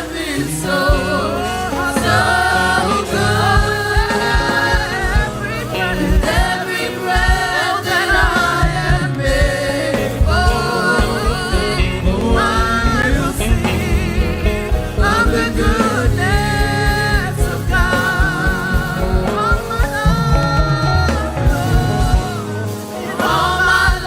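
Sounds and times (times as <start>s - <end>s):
band with bass and drums: 0.0s - 24.0s
singers: 0.0s - 24.0s.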